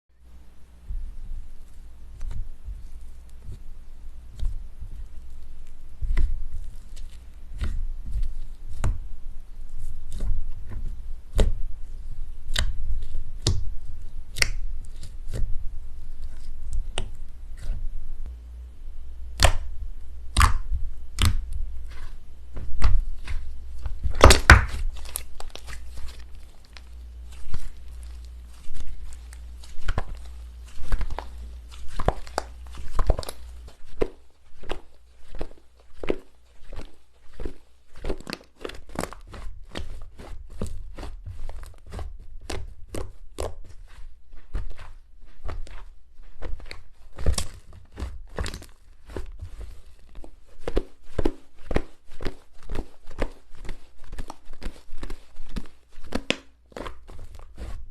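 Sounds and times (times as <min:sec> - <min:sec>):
faint low hum: 0:00.1 - 0:57.9.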